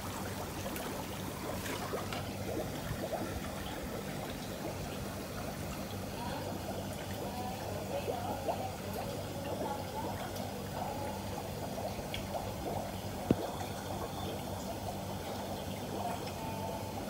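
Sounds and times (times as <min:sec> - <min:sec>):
steady low hum: 0:00.0 - 0:17.0
water bubbling and trickling: 0:00.0 - 0:17.0.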